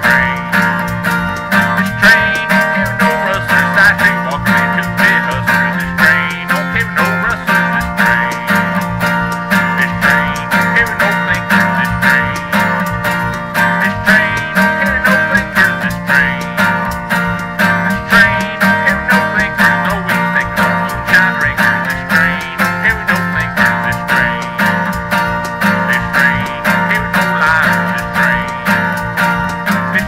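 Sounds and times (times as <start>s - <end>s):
acoustic guitar strumming: 0.0s - 30.0s
wavering lead melody: 0.0s - 30.0s.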